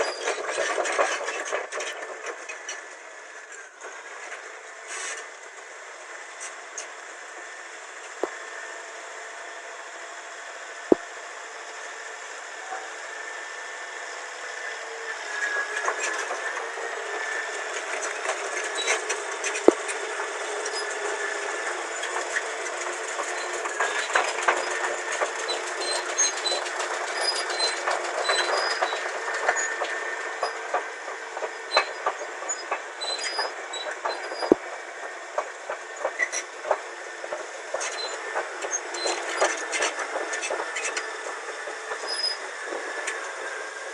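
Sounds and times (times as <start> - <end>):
bulldozer tracks clanking: 0.0 - 8.9, 14.3 - 43.9
engine whine: 0.0 - 43.9.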